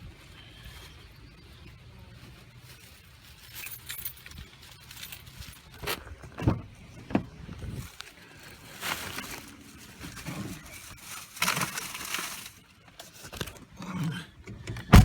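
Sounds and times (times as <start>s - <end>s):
rustling and handling noises: 0.0s - 13.7s.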